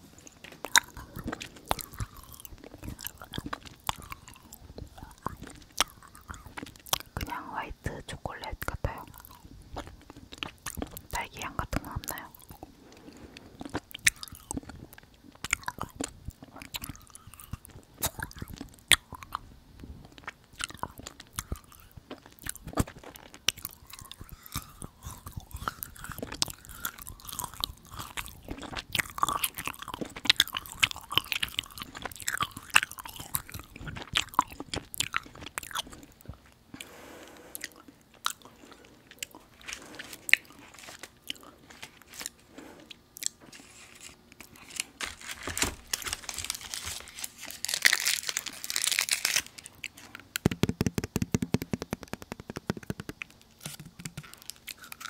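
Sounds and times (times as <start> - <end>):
chewing with wet mouth clicks: 0.3 - 7.4, 8.5 - 43.4, 51.4 - 55.0.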